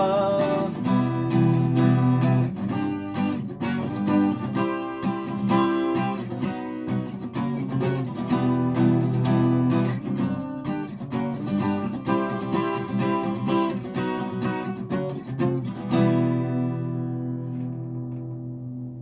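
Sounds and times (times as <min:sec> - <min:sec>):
guitar strumming: 0:00.0 - 0:19.0.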